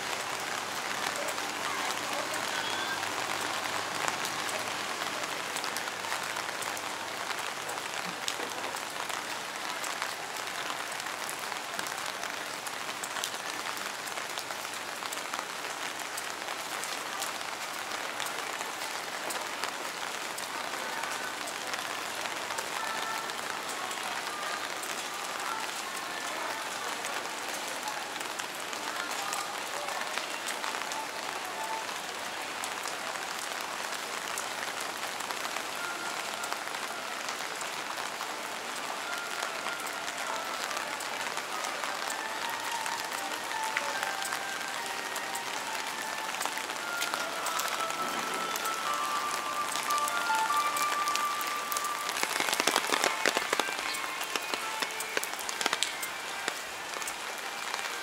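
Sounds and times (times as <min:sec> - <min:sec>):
rain on wet paving: 0:00.0 - 0:58.0.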